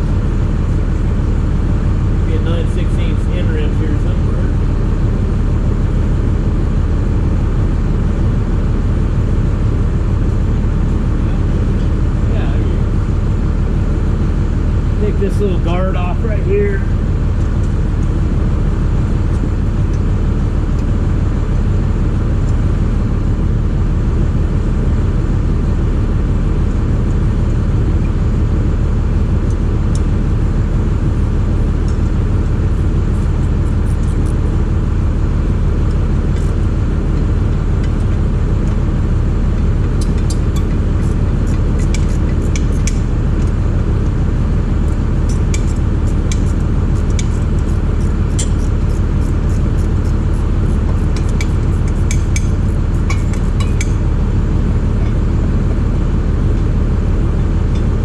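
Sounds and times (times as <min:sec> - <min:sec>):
engine droning steadily: 0:00.0 - 0:58.0.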